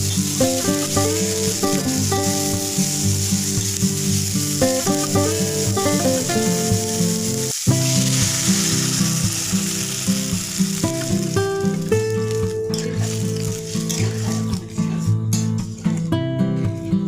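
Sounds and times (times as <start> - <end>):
food sizzling in a pan: 0.0 - 16.0
background music: 0.0 - 17.0.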